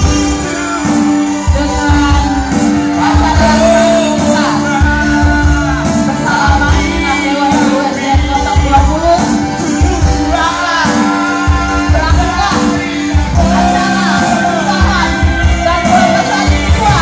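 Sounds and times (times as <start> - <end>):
person singing: 0.0 - 17.0
steady bass beat: 0.0 - 17.0.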